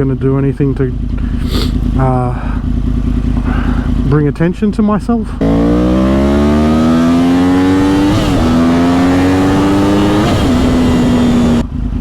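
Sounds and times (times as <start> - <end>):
motorcycle engine accelerating: 0.1 - 12.0.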